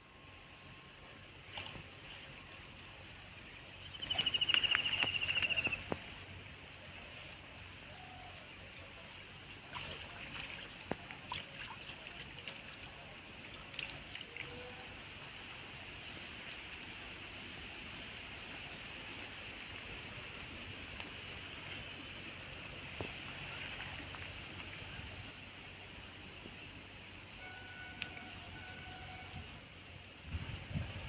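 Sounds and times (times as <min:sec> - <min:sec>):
faint hiss: 0:00.0 - 0:31.0
water splashes: 0:01.4 - 0:27.0.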